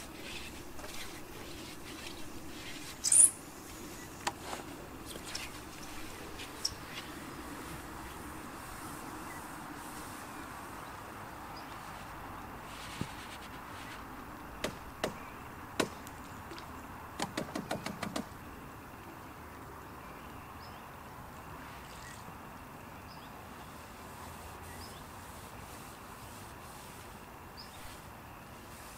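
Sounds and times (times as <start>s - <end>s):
outdoor background noise: 0.0s - 28.9s.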